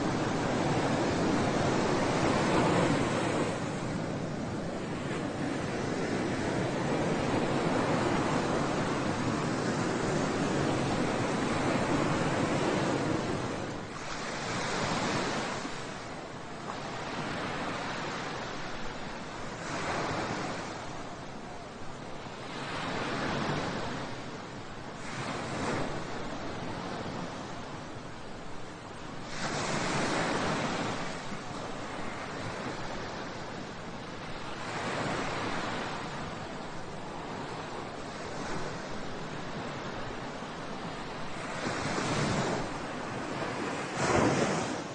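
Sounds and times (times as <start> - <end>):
sea waves breaking: 0.0 - 44.9
wind on microphone: 0.0 - 44.9.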